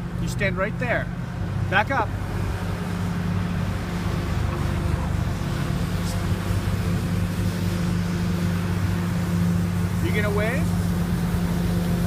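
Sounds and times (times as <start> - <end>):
garbage truck engine humming: 0.0 - 12.0.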